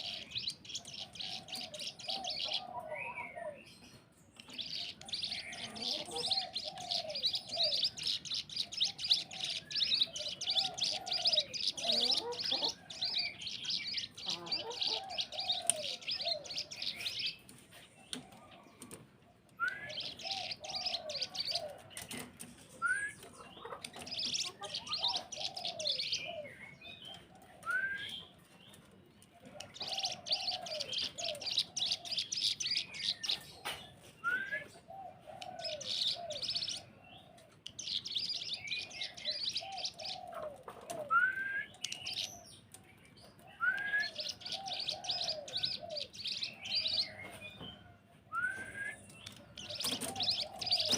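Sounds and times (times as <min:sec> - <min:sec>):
songbird chorus: 0:00.0 - 0:50.9.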